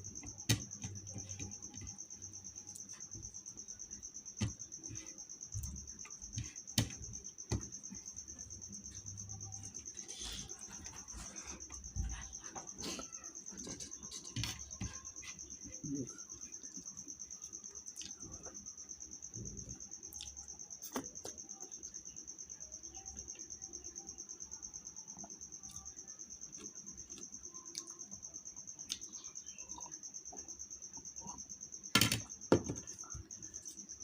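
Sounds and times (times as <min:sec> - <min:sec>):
cricket trilling: 0:00.0 - 0:34.0.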